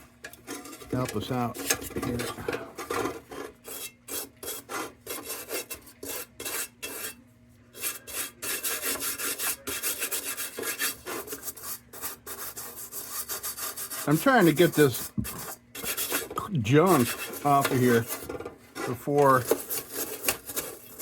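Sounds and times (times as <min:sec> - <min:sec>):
scraping on sheet metal: 0:00.5 - 0:21.0.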